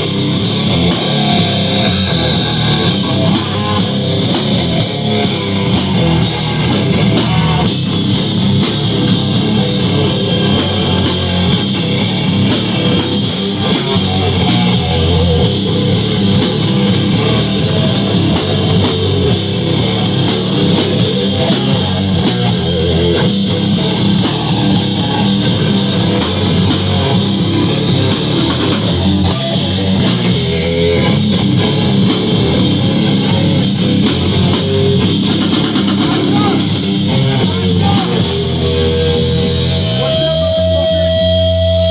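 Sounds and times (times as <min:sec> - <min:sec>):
drum kit: 0:00.0 - 0:41.9
loud electric guitars: 0:00.0 - 0:41.9.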